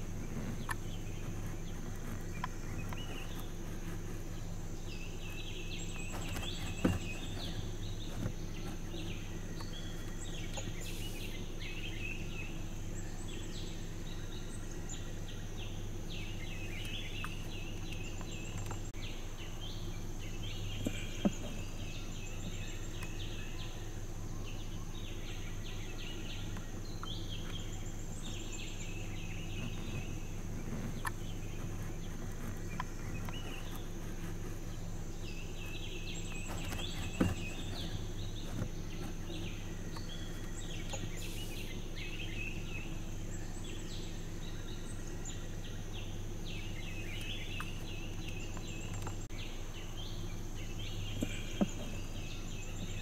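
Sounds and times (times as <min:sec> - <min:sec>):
birds chattering: 0:00.0 - 0:53.0
high insect whine: 0:00.0 - 0:53.0
low steady hum: 0:00.0 - 0:53.0.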